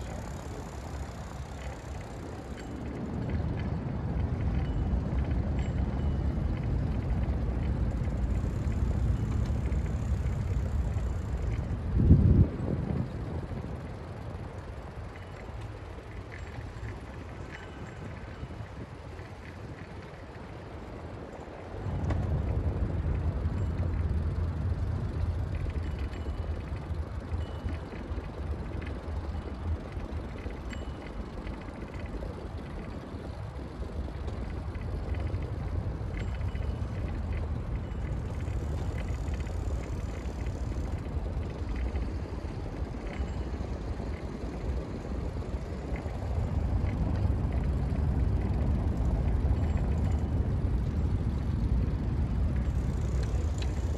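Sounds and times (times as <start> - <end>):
traffic noise: 0.0 - 53.9
wind rumble: 0.0 - 53.9.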